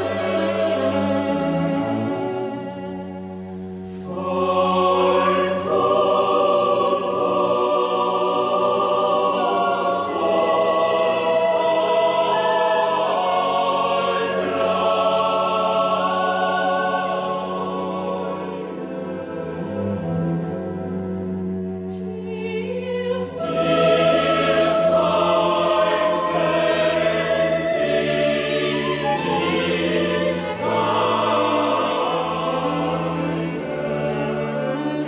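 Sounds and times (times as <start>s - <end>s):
choir singing sustained chords: 0.0s - 35.0s.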